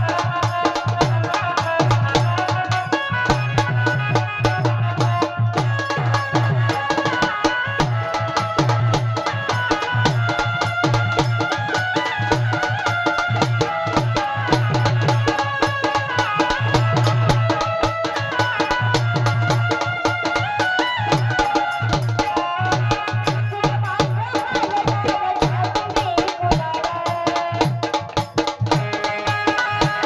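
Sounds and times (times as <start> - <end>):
steady drum beat: 0.0 - 30.0.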